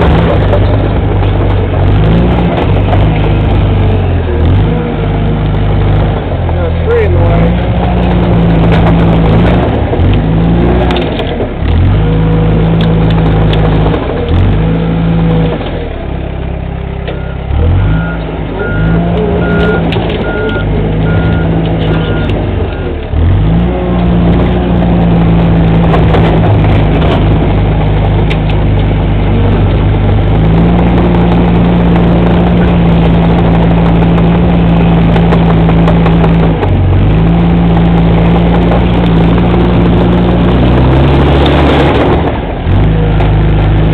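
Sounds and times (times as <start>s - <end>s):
bulldozer diesel engine: 0.0s - 43.9s.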